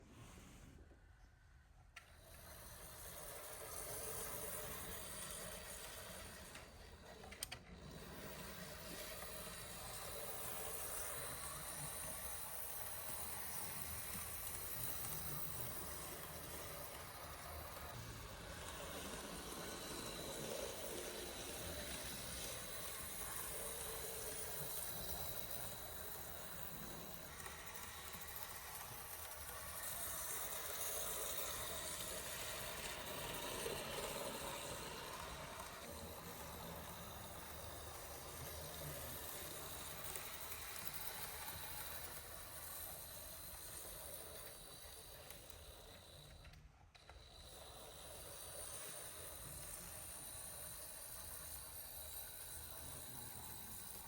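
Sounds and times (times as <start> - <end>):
model train whirring on track: 0.0 - 54.0.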